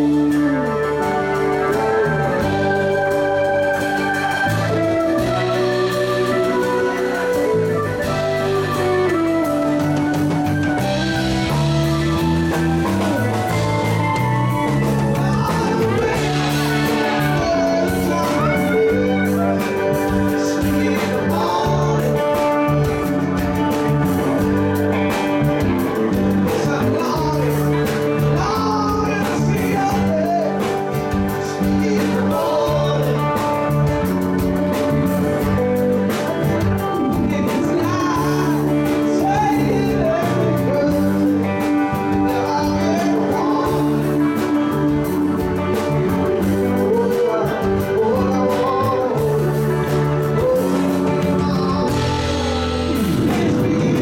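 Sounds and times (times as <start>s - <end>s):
acoustic and electric guitars: 0.0s - 54.0s
electric bass: 0.0s - 54.0s
keyboard organ: 0.0s - 54.0s
man singing lead: 0.0s - 54.0s.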